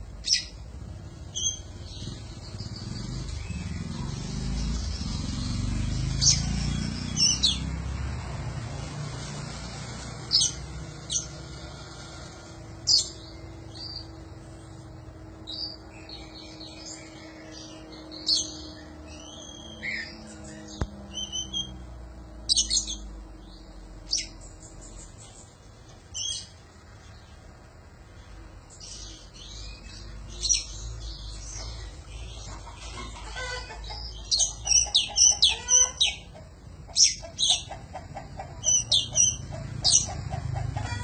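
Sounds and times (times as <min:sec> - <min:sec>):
bird singing: 0:00.0 - 0:07.8, 0:12.8 - 0:27.5, 0:28.2 - 0:41.0.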